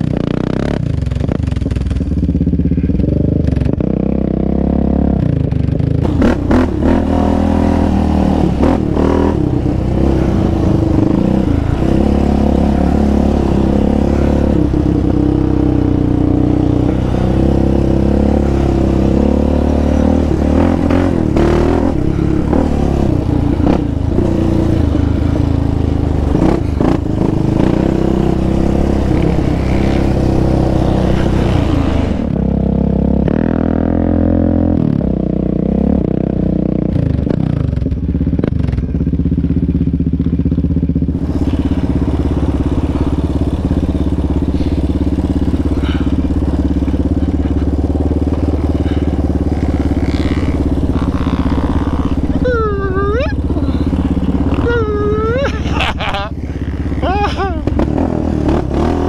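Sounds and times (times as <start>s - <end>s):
quad engine running under load: 0.0s - 59.0s.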